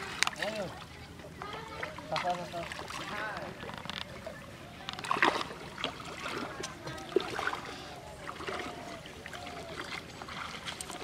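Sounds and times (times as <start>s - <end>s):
water sloshing around wading legs: 0.0s - 11.0s.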